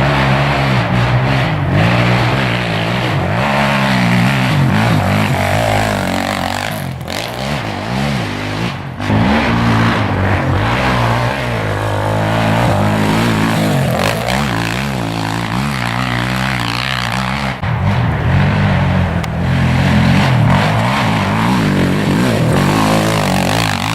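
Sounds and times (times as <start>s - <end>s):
quad engine revving: 0.0s - 23.9s.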